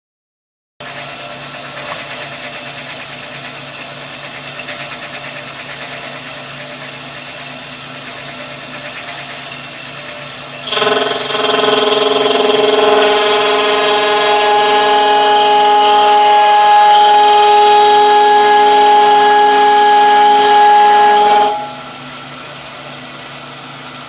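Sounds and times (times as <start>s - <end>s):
milling machine whirring: 0.8s - 24.0s
machine whine: 0.9s - 24.0s.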